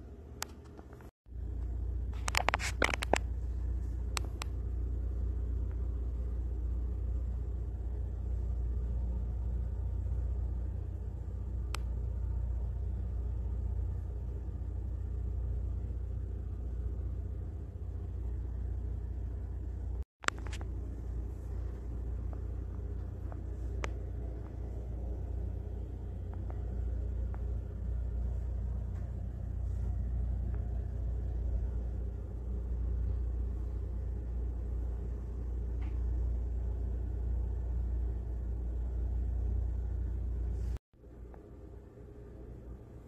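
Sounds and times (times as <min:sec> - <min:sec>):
steady low rumble: 0:00.0 - 0:43.0.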